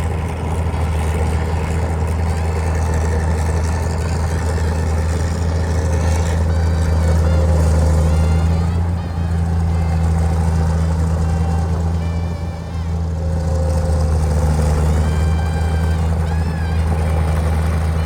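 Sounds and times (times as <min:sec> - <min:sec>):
tractor diesel engine drone: 0:00.0 - 0:18.0.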